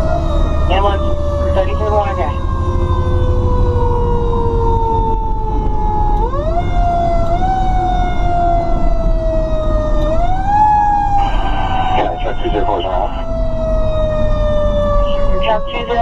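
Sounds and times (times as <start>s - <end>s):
fire truck mechanical siren: 0.0s - 16.0s
truck engine rumble: 0.0s - 16.0s.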